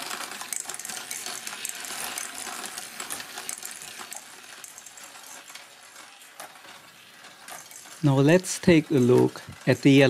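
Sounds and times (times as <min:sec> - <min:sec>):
steel balls rolling on plastic tracks: 0:00.0 - 0:10.0.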